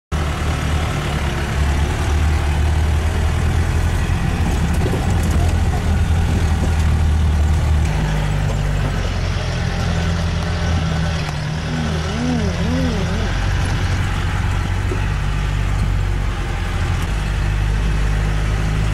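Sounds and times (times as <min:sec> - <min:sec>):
car engine droning in cabin: 0:00.1 - 0:18.9.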